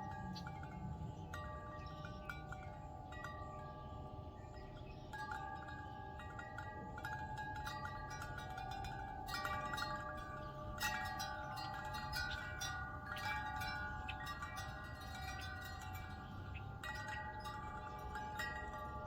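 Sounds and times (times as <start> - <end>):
wind chimes ringing: 0.0 - 19.0.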